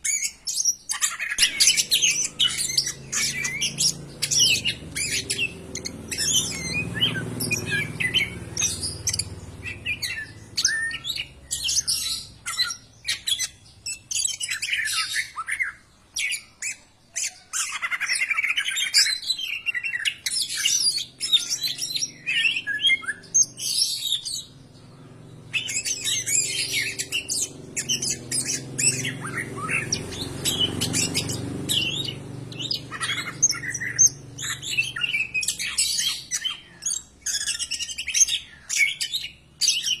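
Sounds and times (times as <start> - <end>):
bird singing: 0.0 - 40.0.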